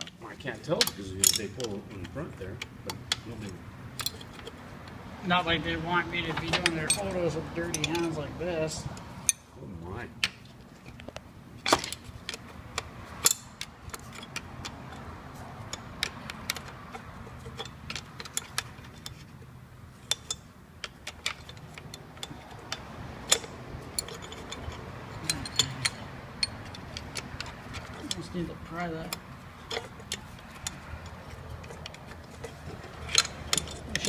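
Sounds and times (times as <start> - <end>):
hand tools clinking on metal: 0.0 - 4.6, 5.3 - 9.6, 11.6 - 34.0.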